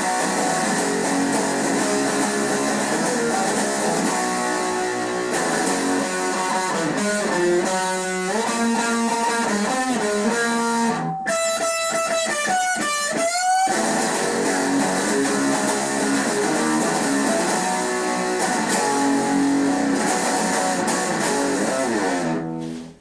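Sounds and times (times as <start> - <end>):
electric guitar: 0.0 - 23.0.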